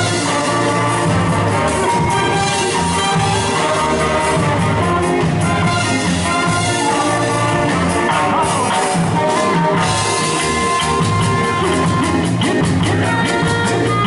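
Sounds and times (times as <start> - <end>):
live ska band playing: 0.0 - 14.0.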